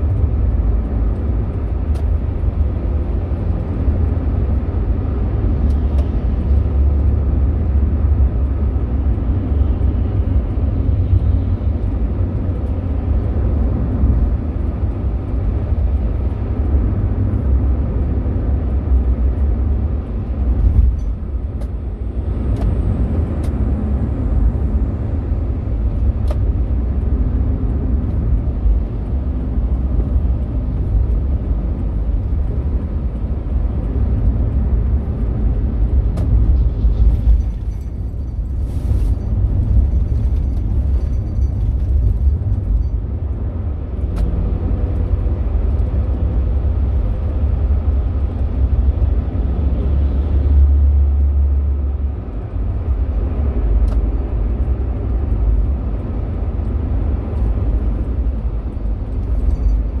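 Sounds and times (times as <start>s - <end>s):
car engine and tyres rumbling: 0.0s - 60.0s.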